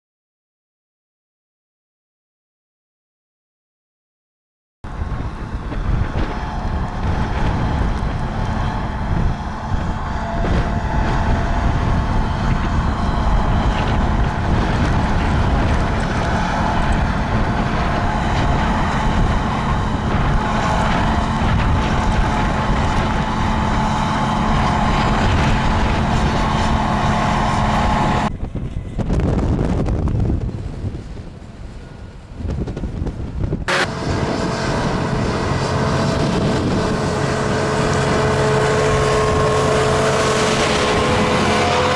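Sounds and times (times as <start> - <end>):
tractor diesel engine running: 4.8 - 41.9
wind buffeting microphone: 4.8 - 41.9.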